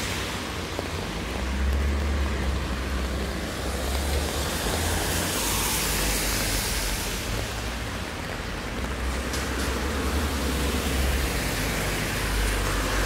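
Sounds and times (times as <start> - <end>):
car tyres hissing on wet road: 0.0 - 13.0
steady rain: 0.0 - 13.0.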